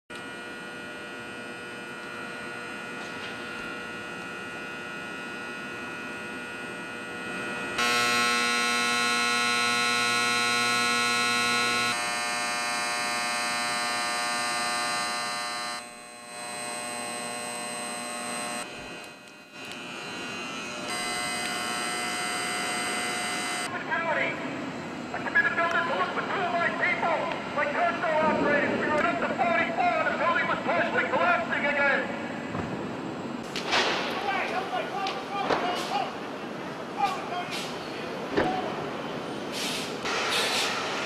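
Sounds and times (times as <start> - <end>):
hum of held tones: 0.1 - 33.4.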